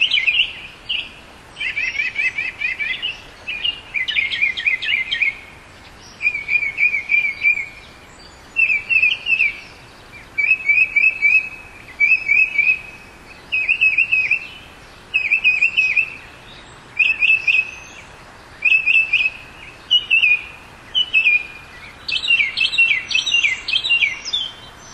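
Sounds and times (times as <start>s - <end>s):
bird singing: 0.0s - 24.9s
faint background hiss: 0.0s - 24.9s.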